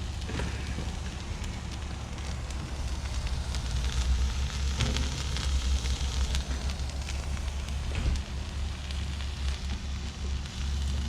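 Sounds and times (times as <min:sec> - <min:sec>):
low rumble: 0:00.0 - 0:09.9
omelette sizzling on griddle: 0:00.0 - 0:11.0.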